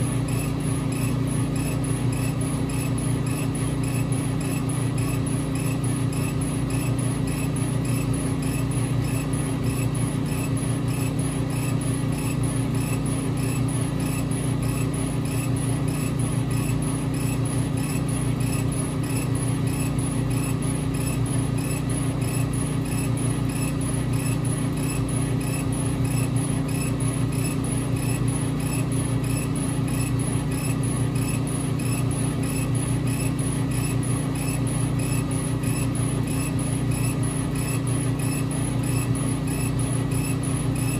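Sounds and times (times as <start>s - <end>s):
laser cutter motor hum: 0.0s - 40.9s.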